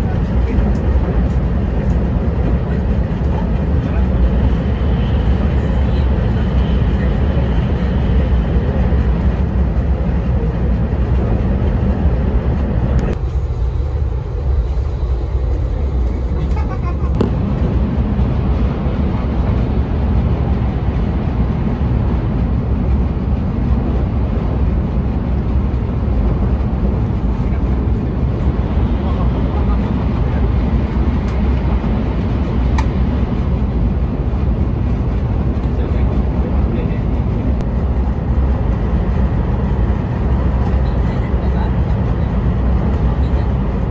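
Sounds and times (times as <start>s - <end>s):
train rumble and rush: 0.0s - 43.9s.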